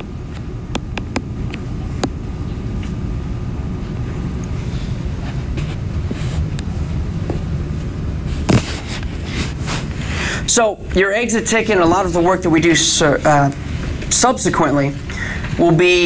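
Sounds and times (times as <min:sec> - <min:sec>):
low room noise rumble: 0:00.0 - 0:16.0.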